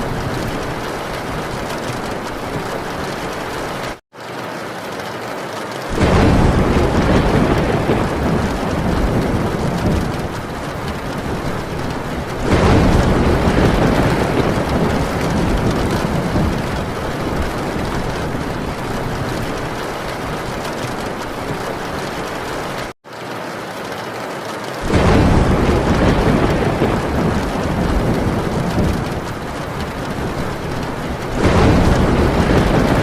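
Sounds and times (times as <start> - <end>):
thunder rumbling: 0.0 - 4.0, 5.9 - 22.9, 24.8 - 33.0
heavy rain on a tin roof: 0.0 - 33.0.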